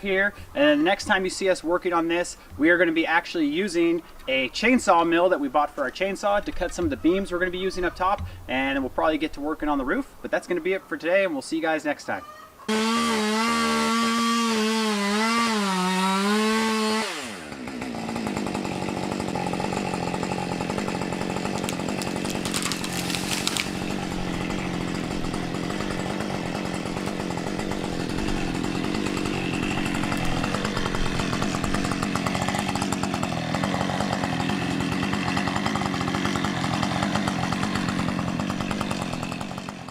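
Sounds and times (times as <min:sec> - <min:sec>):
chainsaw cutting wood: 0:00.0 - 0:05.2, 0:05.8 - 0:08.8, 0:12.7 - 0:39.9.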